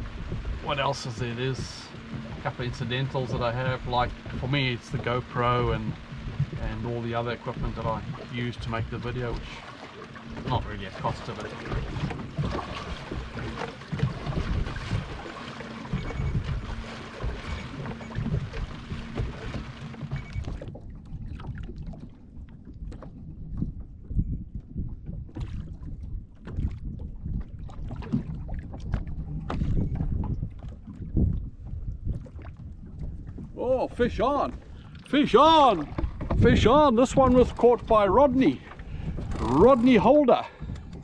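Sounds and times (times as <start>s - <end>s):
water slapping against boat hull: 0.0s - 41.0s
wind buffeting microphone: 0.0s - 41.0s.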